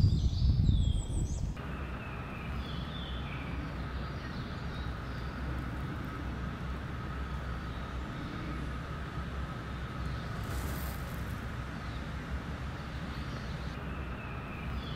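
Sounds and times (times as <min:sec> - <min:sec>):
faint steady hum: 0:00.0 - 0:14.9
outdoor background rumble: 0:00.0 - 0:14.9.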